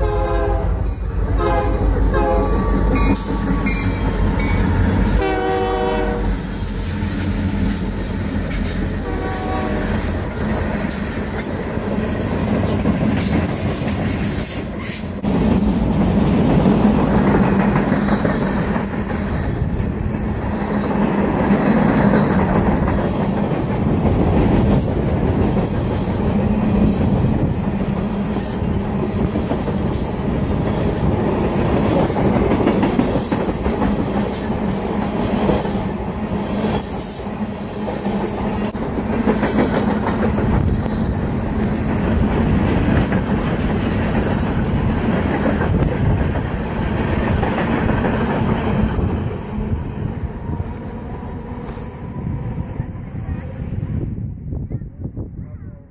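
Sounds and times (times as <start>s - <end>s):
steel wheels rumbling on rails: 0.0s - 55.4s.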